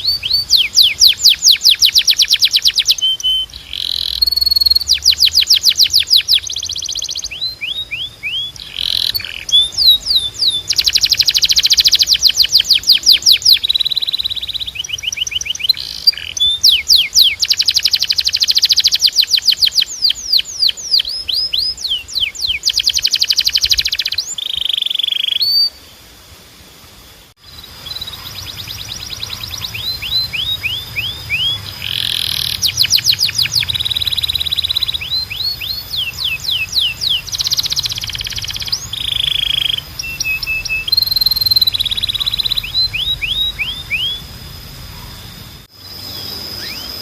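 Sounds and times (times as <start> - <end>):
canary singing fast trills: 0.0 - 26.1, 27.4 - 47.0.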